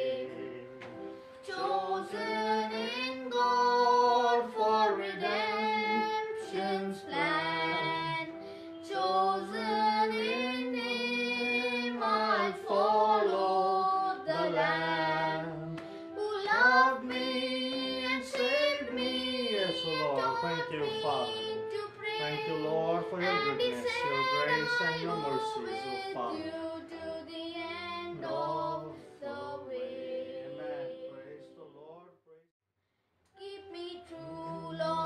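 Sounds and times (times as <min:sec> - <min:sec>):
boy singing a hymn: 0:00.0 - 0:00.8, 0:01.4 - 0:31.5, 0:33.4 - 0:35.0.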